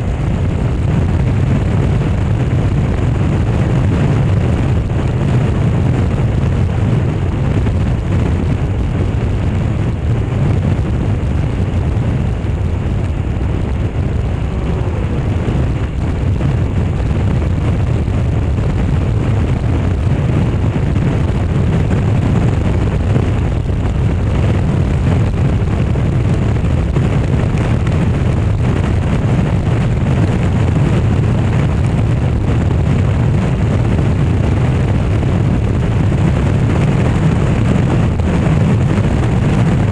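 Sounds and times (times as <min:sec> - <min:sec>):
motorbike engine: 0:00.0 - 0:39.8
road noise: 0:00.0 - 0:39.9
wind rumble on microphone: 0:00.0 - 0:39.9.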